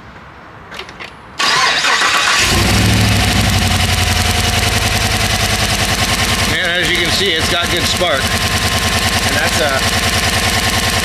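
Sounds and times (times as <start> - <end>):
starter cranking engine: 1.4 - 11.0
truck engine running: 1.5 - 11.0.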